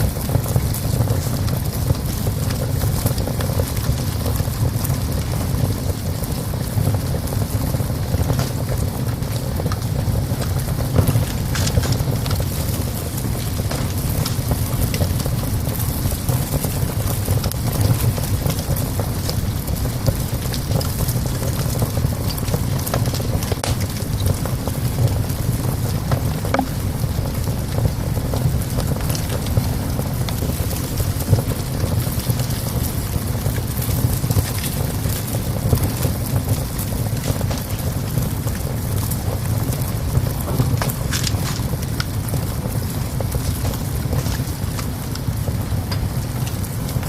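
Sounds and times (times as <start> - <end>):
wood fire crackling in stove: 0.0 - 47.0.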